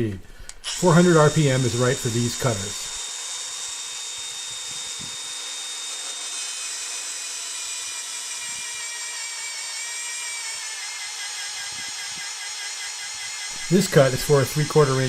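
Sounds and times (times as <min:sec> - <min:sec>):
magnetic drill motor whine: 0:00.6 - 0:15.0.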